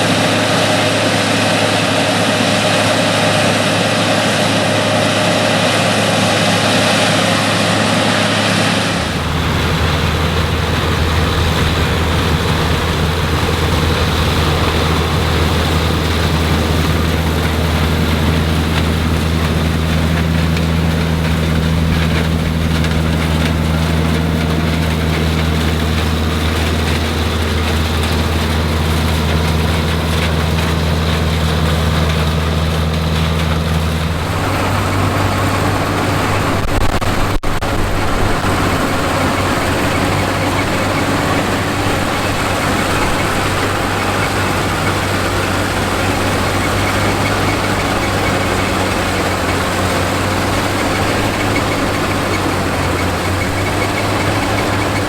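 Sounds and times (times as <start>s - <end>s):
combine harvester engine humming: 0.0s - 55.0s
rough noisy machine running: 0.0s - 55.0s.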